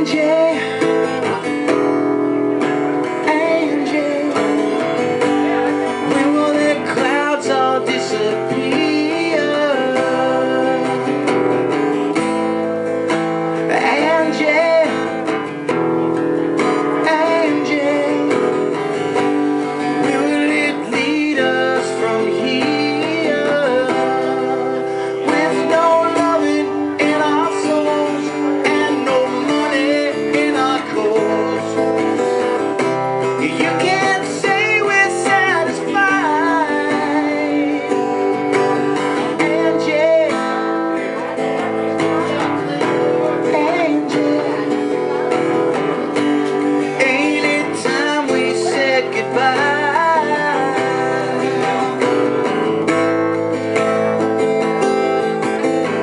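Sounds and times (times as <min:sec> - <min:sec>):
acoustic guitar strumming: 0:00.0 - 0:56.0
man singing a slow ballad: 0:00.0 - 0:56.0.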